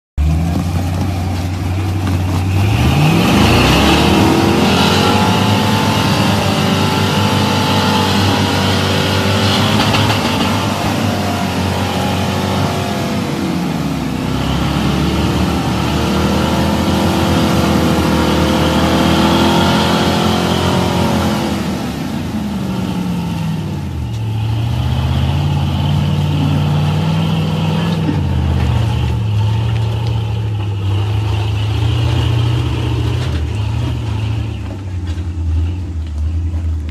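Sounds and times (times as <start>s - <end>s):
tires spinning on rock: 0.2s - 36.9s
truck engine revving: 0.2s - 36.9s.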